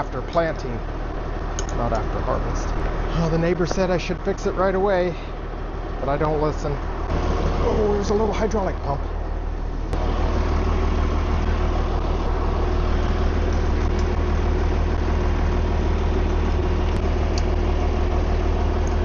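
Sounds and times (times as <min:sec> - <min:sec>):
farm machinery running: 0:00.0 - 0:19.0.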